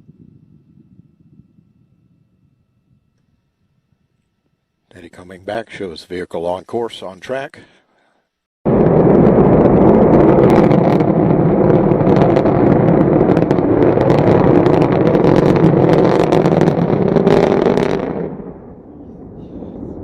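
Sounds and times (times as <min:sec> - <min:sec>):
rocket engine rumble with crackle: 0:00.0 - 0:05.9, 0:08.7 - 0:20.0.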